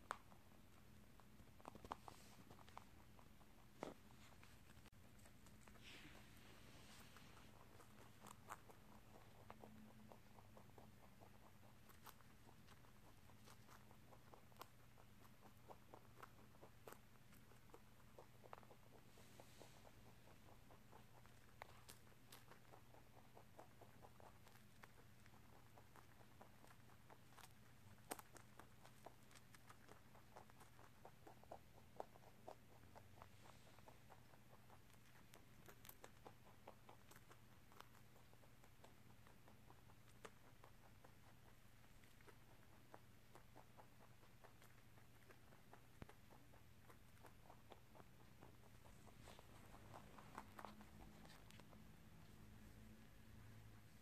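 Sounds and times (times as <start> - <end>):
rabbit crunching snack: 0.0 - 54.0.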